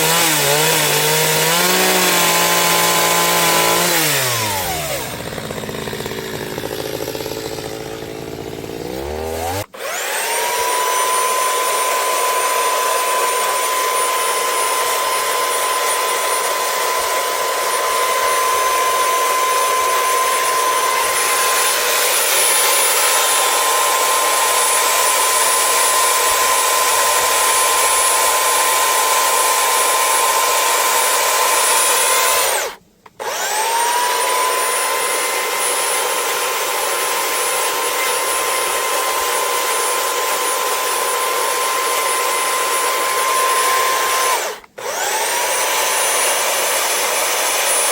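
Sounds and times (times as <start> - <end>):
electric power tool high whine: 0.0 - 47.9
power tool motor slowing down: 0.0 - 47.9.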